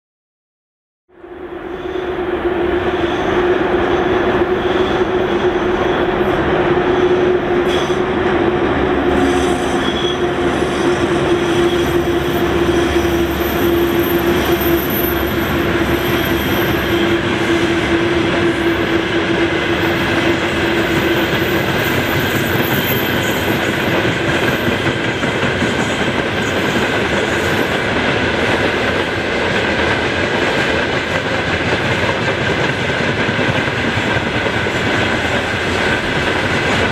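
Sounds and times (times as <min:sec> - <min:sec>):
train wheels rumbling on rails: 0:01.4 - 0:36.9.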